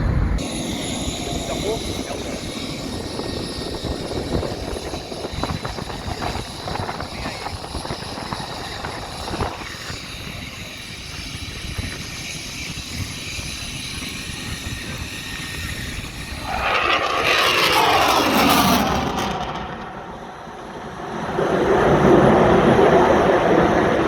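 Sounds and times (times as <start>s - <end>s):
jet engine roar with crackle: 0.0s - 24.0s.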